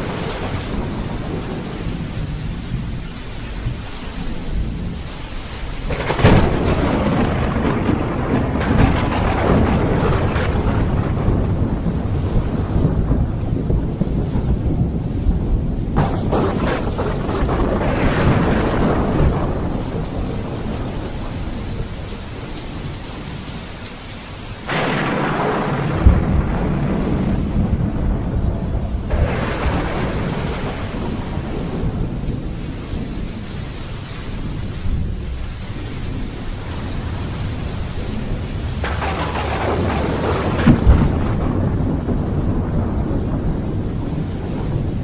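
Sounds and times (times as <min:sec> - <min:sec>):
thunder rumbling and cracking: 0:00.0 - 0:23.7, 0:24.3 - 0:45.0
rain hiss: 0:00.0 - 0:45.0.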